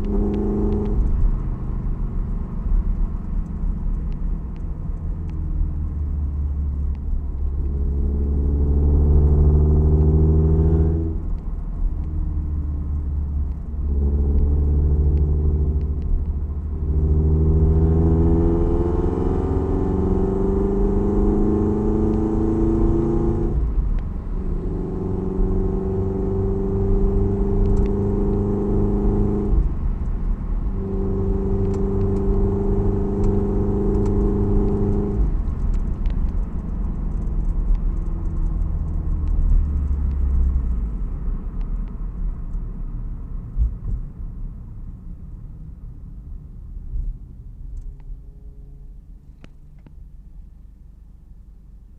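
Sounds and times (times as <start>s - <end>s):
car engine with exhaust note: 0.0s - 51.9s.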